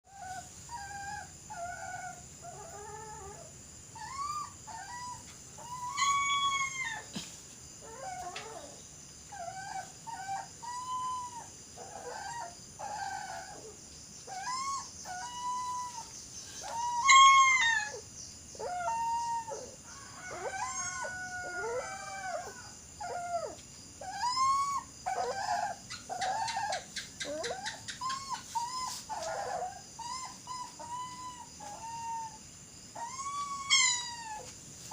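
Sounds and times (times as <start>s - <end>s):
dog howling and whining: 0.1s - 7.1s, 7.8s - 18.0s, 18.6s - 34.5s.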